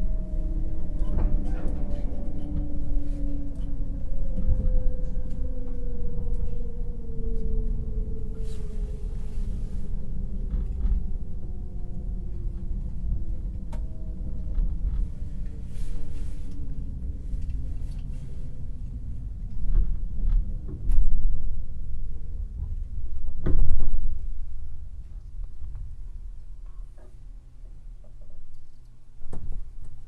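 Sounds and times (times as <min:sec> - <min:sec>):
train running rumble: 0:00.0 - 0:28.3.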